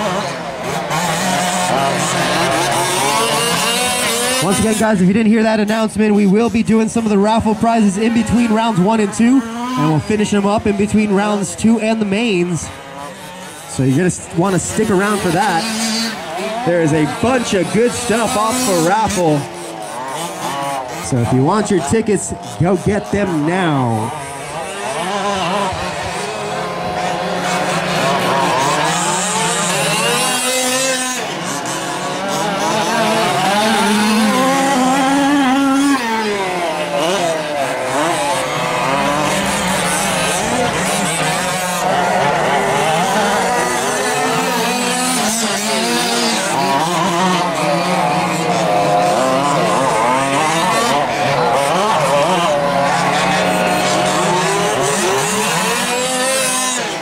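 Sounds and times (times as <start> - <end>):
rc truck engines buzzing and revving: 0.0 - 57.0.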